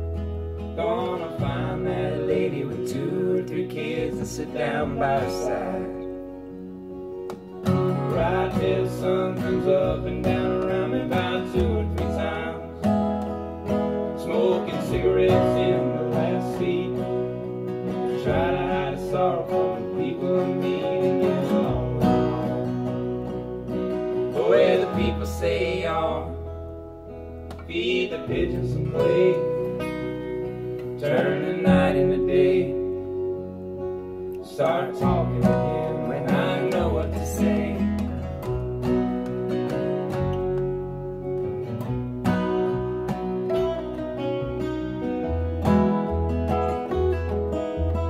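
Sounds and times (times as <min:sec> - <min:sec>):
acoustic guitar strummed and picked: 0:00.0 - 0:48.0
upright bass notes: 0:00.0 - 0:48.0.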